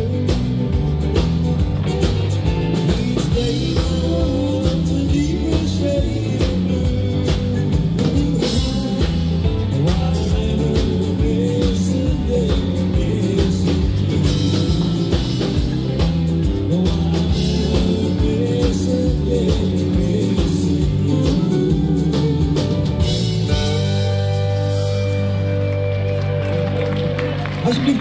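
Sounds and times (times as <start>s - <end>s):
live country band playing: 0.0s - 28.0s.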